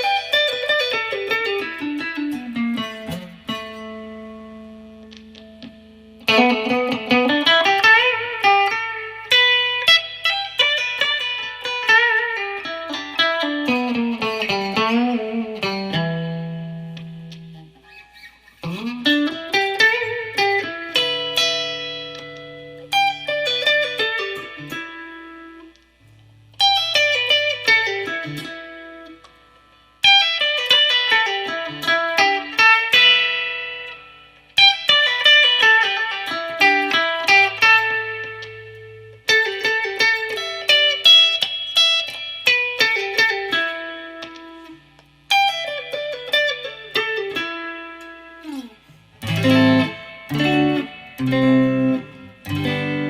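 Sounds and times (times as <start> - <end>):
electric guitar picked notes: 0.0 - 53.0.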